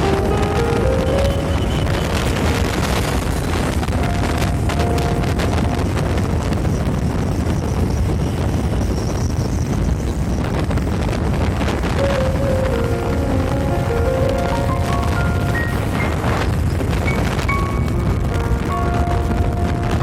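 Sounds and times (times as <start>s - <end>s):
heavy rain: 0.0s - 7.5s, 10.5s - 20.0s
wind buffeting microphone: 0.0s - 20.0s.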